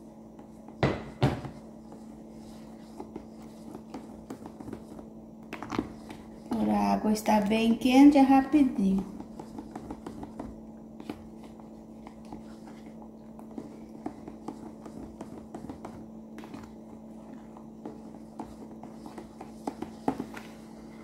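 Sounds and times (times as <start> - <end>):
spoon stirring in plastic jug: 0.4 - 21.0.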